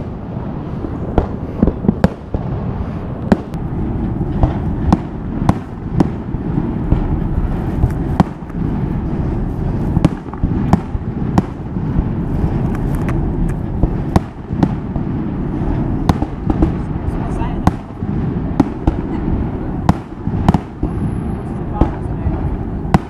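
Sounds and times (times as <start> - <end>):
fireworks bangs and cracks: 0.0 - 23.0
steady low rumble: 0.0 - 23.0.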